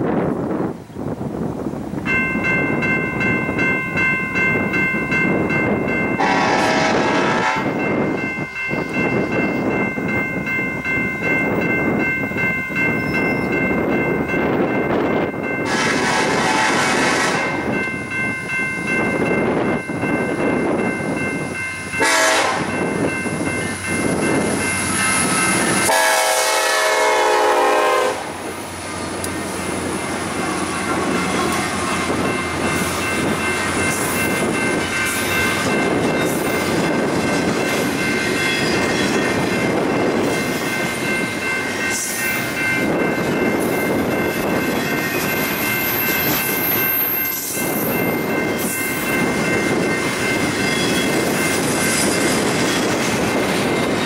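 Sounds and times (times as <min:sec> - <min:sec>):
diesel locomotives passing: 0:00.0 - 0:54.0
steady high ringing: 0:02.0 - 0:16.0, 0:17.3 - 0:28.0, 0:29.5 - 0:54.0.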